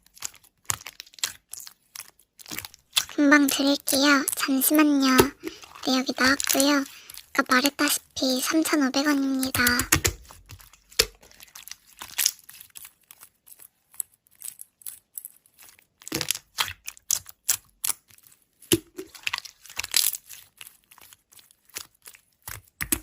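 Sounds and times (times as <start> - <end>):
slime squeezed by hand: 0.1 - 23.0.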